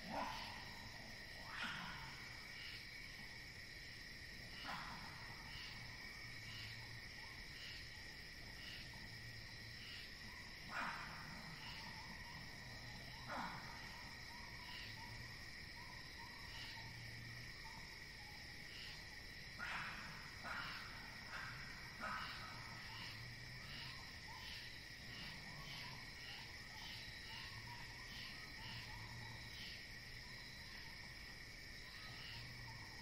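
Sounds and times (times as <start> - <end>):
crickets and night insects: 0.0 - 33.0
repeating insect chirp: 0.0 - 33.0.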